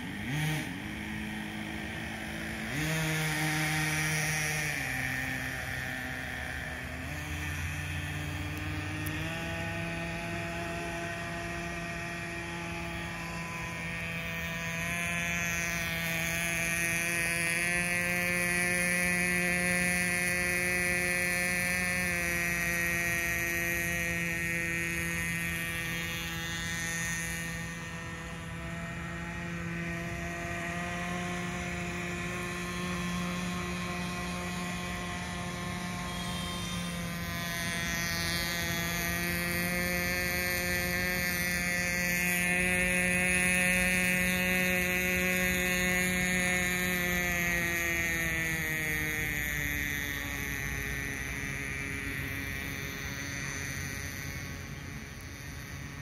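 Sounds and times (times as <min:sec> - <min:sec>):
rc speedboat engine: 0:00.0 - 0:56.0.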